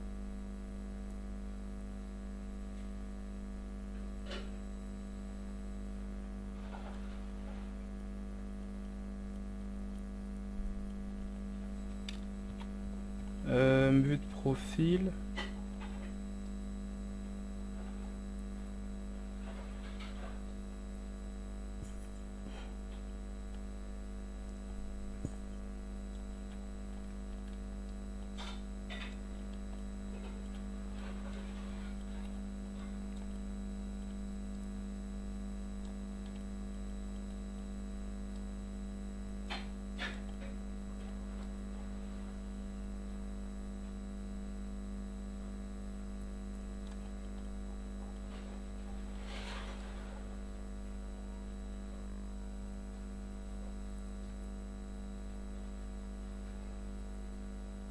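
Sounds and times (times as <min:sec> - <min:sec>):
electrical hum: 0:00.0 - 0:57.9.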